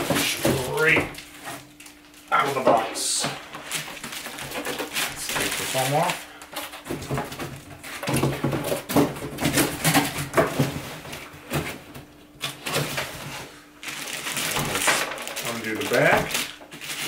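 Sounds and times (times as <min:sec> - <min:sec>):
plastic bag rustling: 0:00.0 - 0:11.7, 0:12.4 - 0:17.0.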